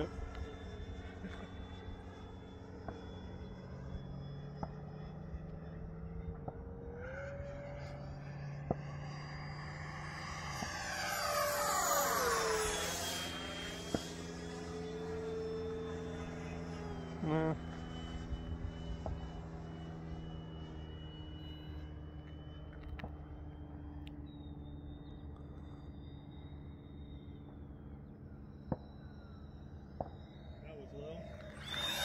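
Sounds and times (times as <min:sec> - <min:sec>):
model jet fan whine: 0:00.0 - 0:32.0.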